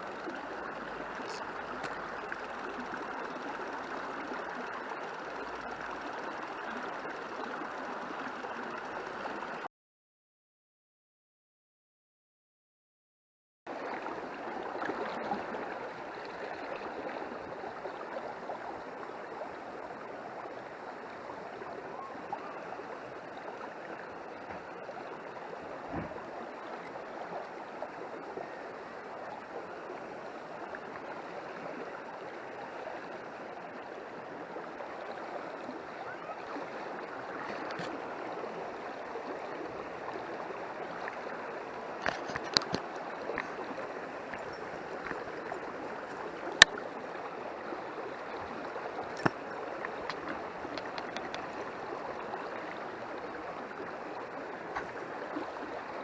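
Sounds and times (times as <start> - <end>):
stream running over its bed: 0.0 - 9.7, 13.7 - 56.0.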